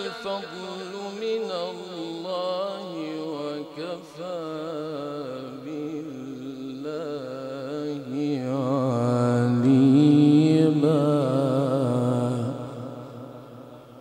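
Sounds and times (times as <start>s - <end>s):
person chanting recitation: 0.0s - 14.0s.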